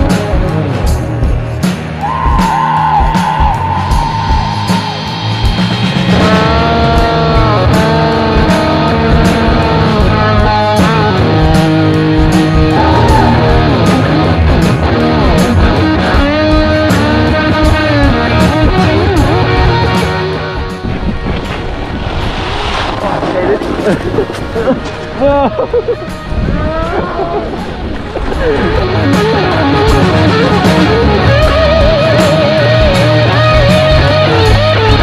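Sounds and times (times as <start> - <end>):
rock music with guitar: 0.0 - 23.1, 23.8 - 35.0.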